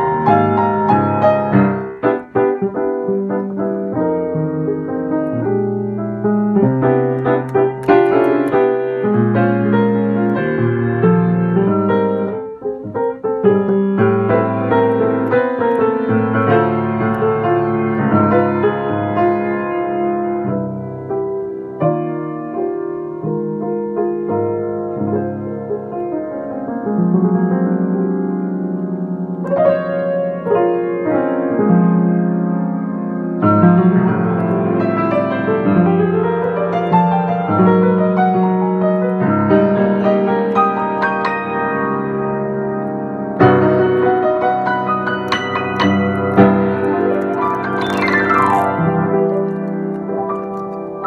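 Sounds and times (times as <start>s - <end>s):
solo jazz piano: 0.0s - 51.0s.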